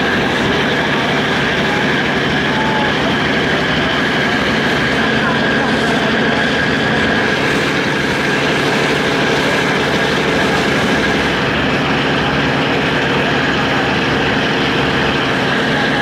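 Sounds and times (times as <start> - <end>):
constant high whine: 0.0 - 16.0
ferry engine drone: 0.0 - 16.0.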